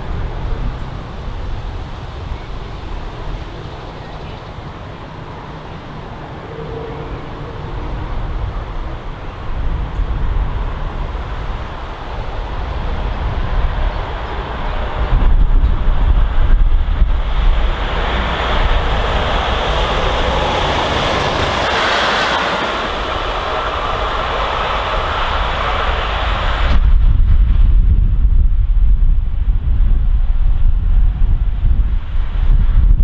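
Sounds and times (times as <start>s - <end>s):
diesel locomotive approaching: 0.0s - 33.0s
wind buffeting microphone: 0.0s - 33.0s.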